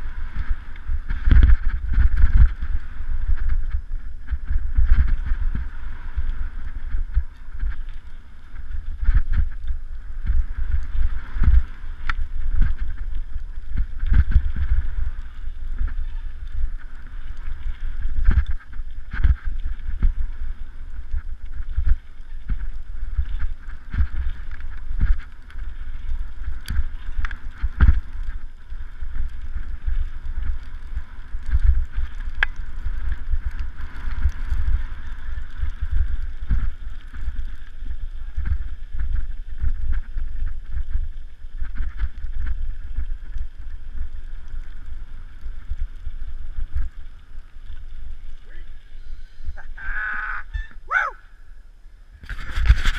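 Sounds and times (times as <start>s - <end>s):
wind rumble on microphone: 0.0s - 52.9s.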